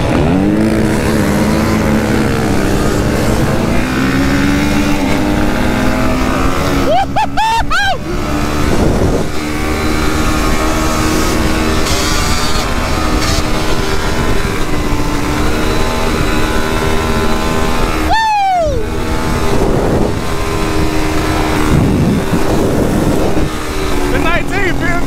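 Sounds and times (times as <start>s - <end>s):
atv engine under throttle: 0.0s - 25.0s.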